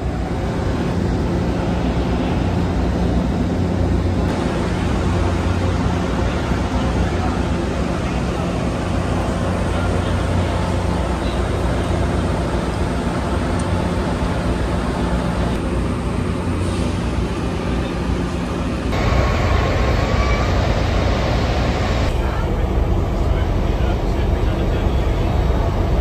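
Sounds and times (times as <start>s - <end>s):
diesel locomotive idling: 0.0s - 26.0s
station platform noise: 0.0s - 26.0s.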